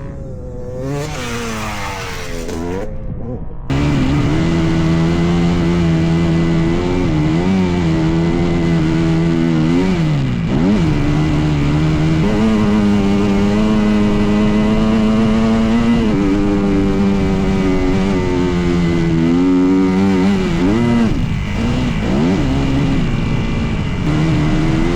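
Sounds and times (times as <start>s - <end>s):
dirt bike engine running: 0.0s - 24.9s.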